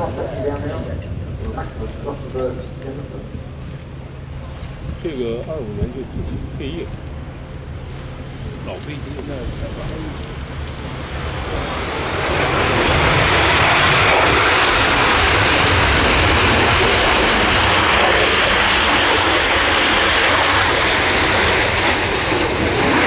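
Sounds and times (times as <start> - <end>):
jet roaring past low: 0.0 - 23.0.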